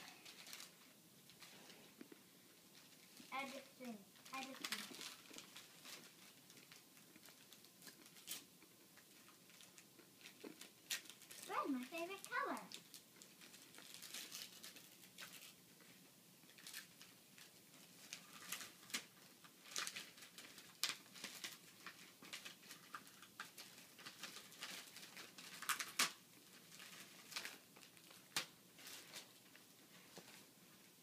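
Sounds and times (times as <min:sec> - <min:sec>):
wrapping paper tearing and crinkling: 0:00.0 - 0:02.0, 0:02.7 - 0:31.0.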